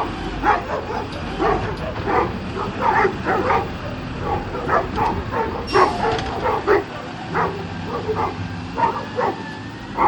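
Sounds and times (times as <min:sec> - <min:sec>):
garbage truck engine rumbling: 0:00.0 - 0:10.0
dog barking and yipping: 0:00.4 - 0:10.0.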